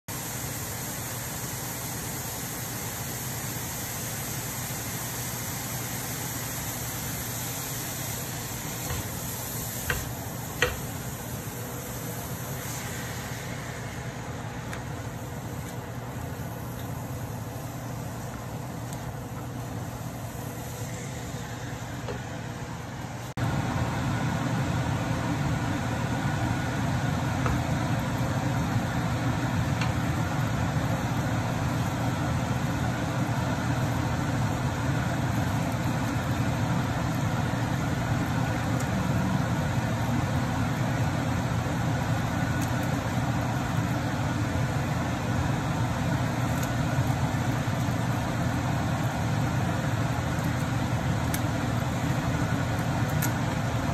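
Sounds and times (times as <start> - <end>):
low mechanical hum with hiss: 0.1 - 53.9.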